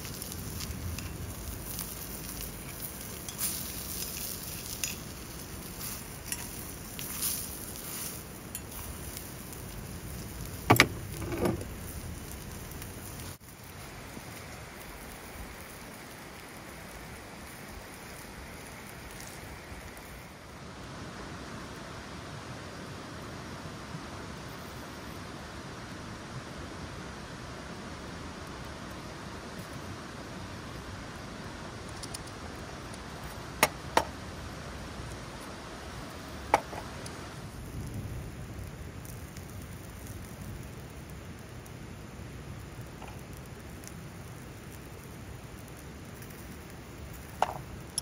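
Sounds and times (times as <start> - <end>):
bread sizzling in a skillet: 0.0 - 20.6, 27.2 - 48.0
fire crackling and popping: 0.0 - 22.0, 23.1 - 48.0.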